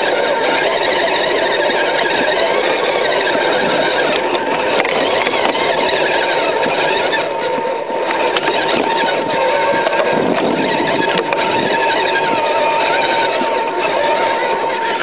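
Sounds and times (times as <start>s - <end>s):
toy car electric motor whining: 0.0s - 15.0s.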